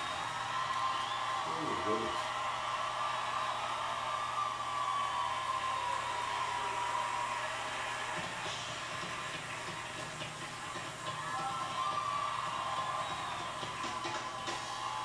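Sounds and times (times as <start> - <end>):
audience cheering and applauding: 0.0 - 15.0.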